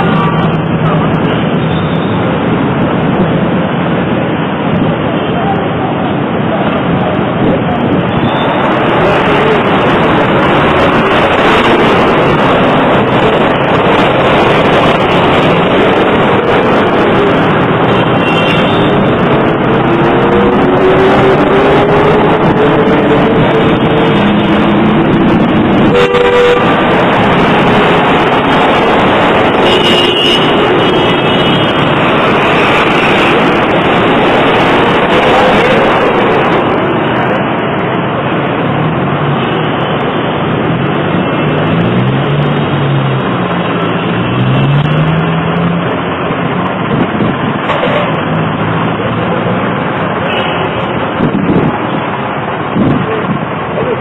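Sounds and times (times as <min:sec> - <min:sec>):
traffic engine drone: 0:00.0 - 0:54.0.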